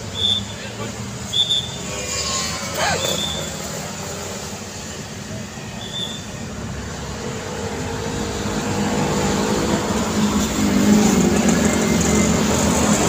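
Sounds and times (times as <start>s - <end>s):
cars passing: 0.0s - 13.0s
motorbikes passing: 0.0s - 13.0s.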